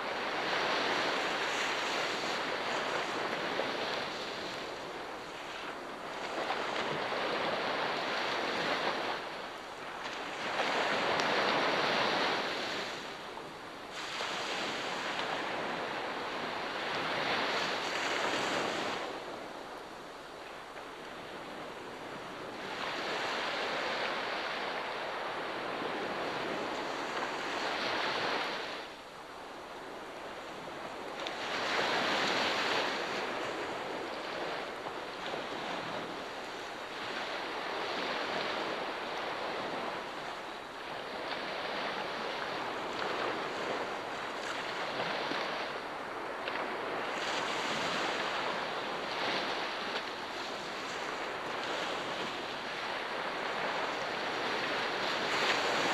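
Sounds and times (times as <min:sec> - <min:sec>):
ocean surf washing ashore: 0:00.0 - 0:55.9.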